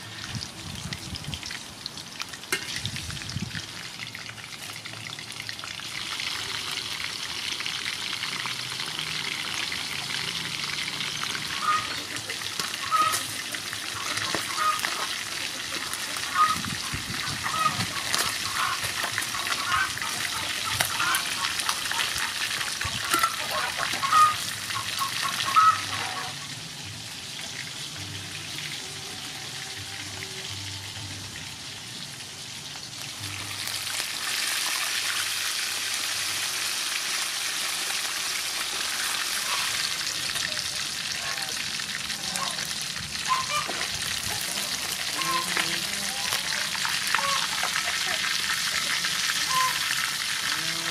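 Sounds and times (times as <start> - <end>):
fish sizzling in oil: 0.0 - 50.9.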